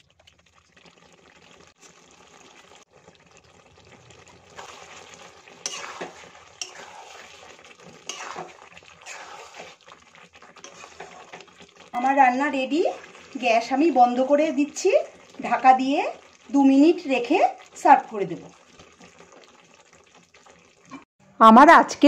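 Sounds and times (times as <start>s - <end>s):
thick gravy bubbling and spluttering: 0.0s - 21.1s.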